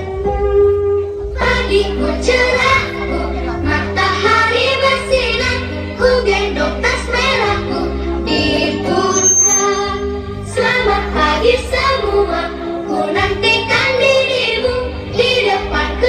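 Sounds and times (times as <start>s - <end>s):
children's song with backing track: 0.0s - 16.0s.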